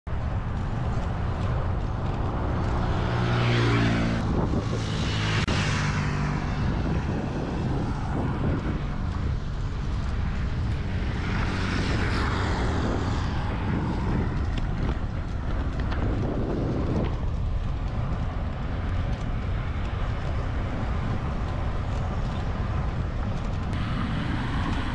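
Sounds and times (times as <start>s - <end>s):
motor vehicles passing: 0.1s - 24.9s
wind rumbling on microphone: 0.1s - 24.9s.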